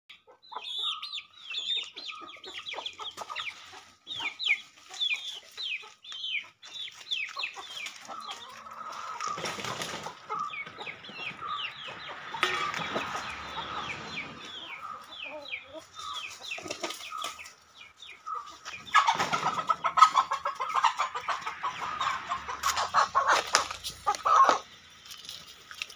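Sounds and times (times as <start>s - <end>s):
chickens calling: 0.1s - 25.9s.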